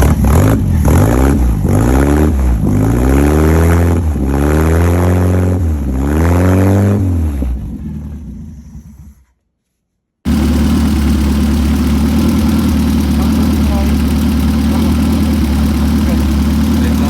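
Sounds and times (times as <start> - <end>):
car engine revving: 0.0 - 9.2, 10.3 - 17.0.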